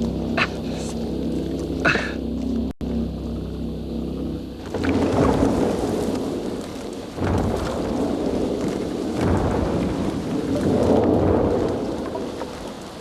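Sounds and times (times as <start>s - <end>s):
deep rumbling: 0.0s - 13.0s.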